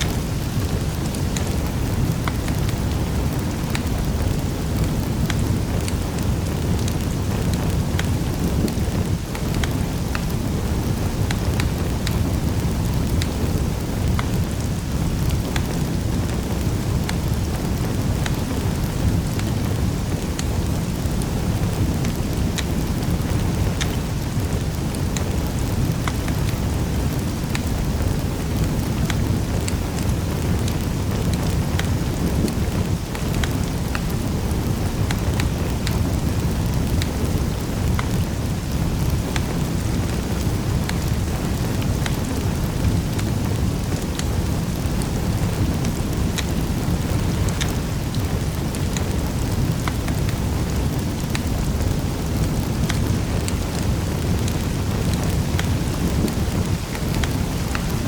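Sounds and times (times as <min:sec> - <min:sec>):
low rumble of burning fire: 0:00.0 - 0:58.0
wood fire crackling: 0:00.0 - 0:58.0.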